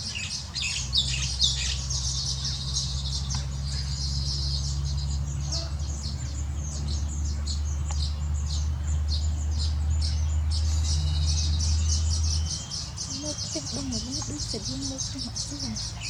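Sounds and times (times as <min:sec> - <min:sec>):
flock of small birds chirping: 0:00.0 - 0:16.0
steady low hum: 0:00.0 - 0:16.0.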